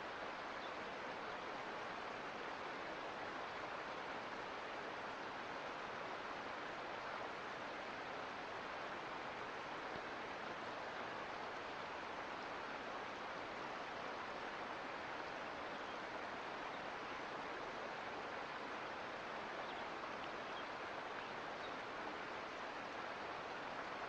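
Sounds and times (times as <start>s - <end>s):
creek water running: 0.0s - 24.0s.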